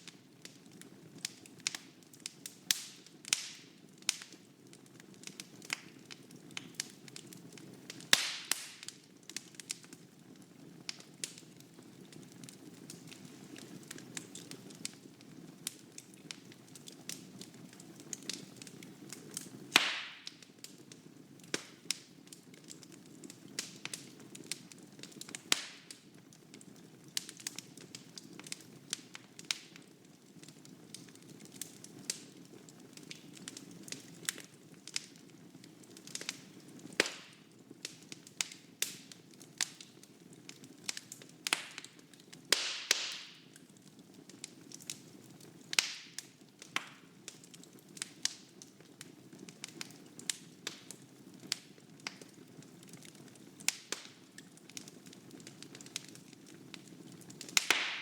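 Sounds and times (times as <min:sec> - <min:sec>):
fire crackling: 0:00.0 - 0:58.0
loud pops from fire: 0:00.1 - 0:04.4, 0:05.2 - 0:09.9, 0:12.2 - 0:26.6, 0:27.2 - 0:43.6, 0:44.3 - 0:48.7, 0:49.6 - 0:52.3, 0:53.3 - 0:58.0.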